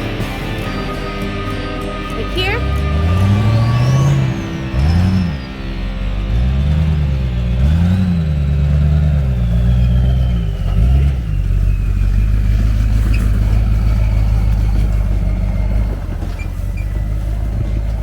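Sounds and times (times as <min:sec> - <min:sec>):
faint high whine: 0:00.0 - 0:18.0
vehicle engine running: 0:00.0 - 0:18.0.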